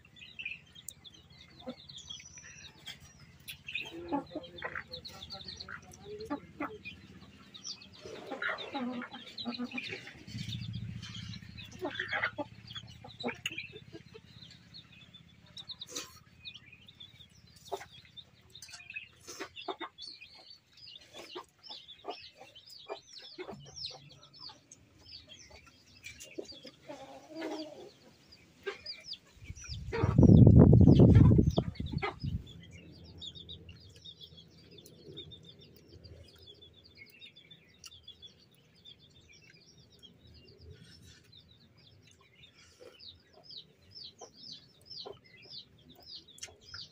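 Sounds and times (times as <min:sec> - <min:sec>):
chickens clucking: 0:00.0 - 0:46.9
small birds chirping: 0:00.0 - 0:46.9.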